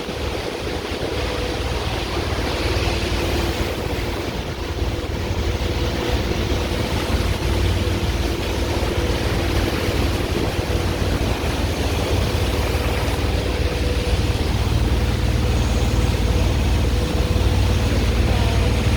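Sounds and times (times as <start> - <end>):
engine drone: 0.0 - 18.9.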